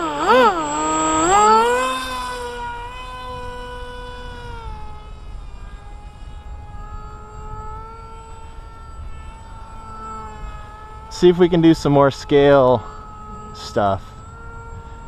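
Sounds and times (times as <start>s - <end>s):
rc jet electric motor whining: 0.0s - 15.0s.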